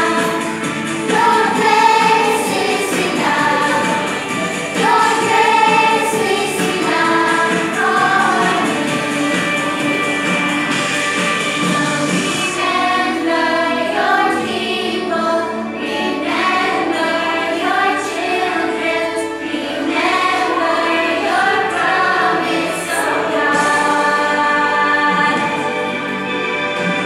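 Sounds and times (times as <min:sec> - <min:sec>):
children singing: 0:00.0 - 0:26.7
music playing: 0:00.0 - 0:27.0.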